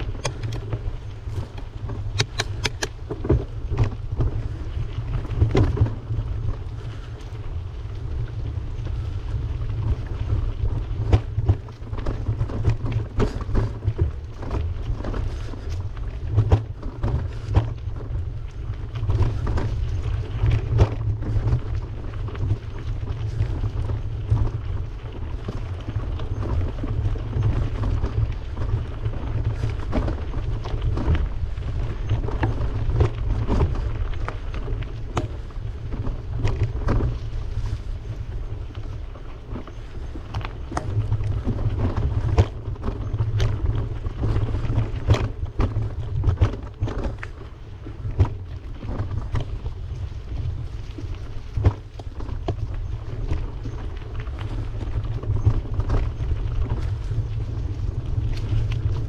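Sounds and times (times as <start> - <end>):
bicycle clicks and rattles: 0.0 - 59.0
wind rumbling on microphone: 0.0 - 59.0.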